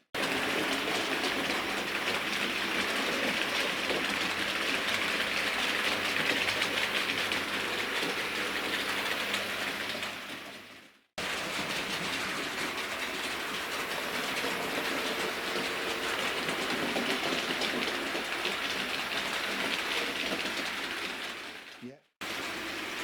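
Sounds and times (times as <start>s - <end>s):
model train wheels clicking: 0.2s - 10.6s, 11.2s - 23.0s.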